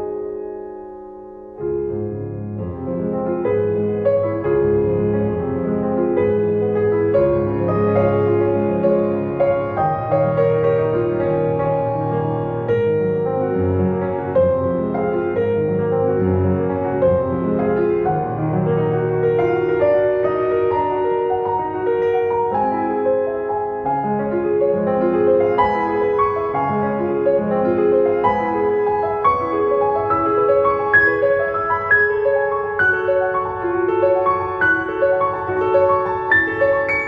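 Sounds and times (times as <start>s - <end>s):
gentle piano piece: 0.0s - 37.0s.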